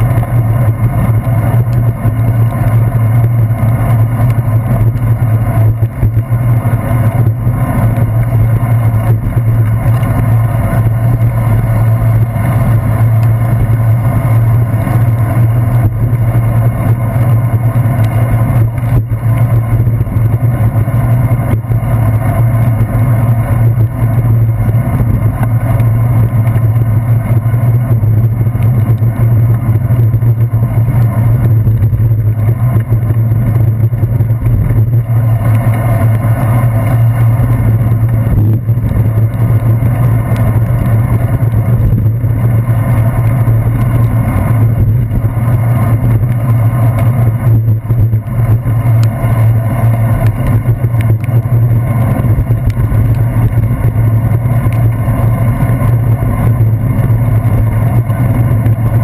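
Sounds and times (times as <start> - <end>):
low hum: 0.0 - 59.0
wind noise: 0.0 - 59.0.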